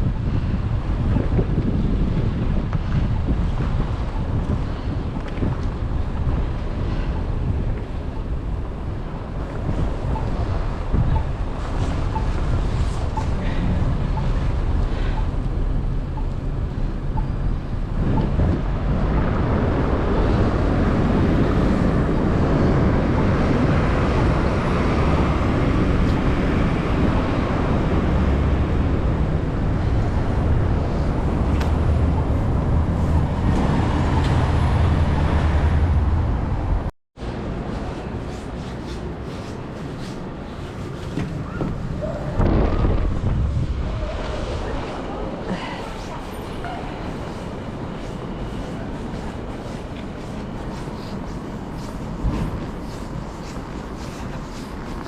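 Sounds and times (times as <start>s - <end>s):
traffic rumble: 0.0s - 55.0s
wind buffeting microphone: 0.0s - 55.0s.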